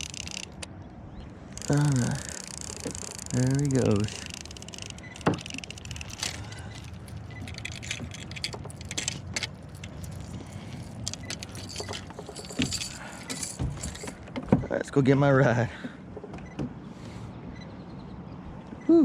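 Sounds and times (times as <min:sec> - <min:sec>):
light clicks and rattles: 0:00.0 - 0:16.7.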